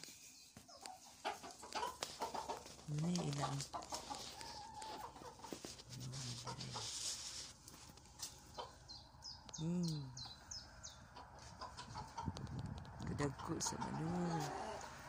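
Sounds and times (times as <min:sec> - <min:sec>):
hens clucking: 0:00.6 - 0:15.0.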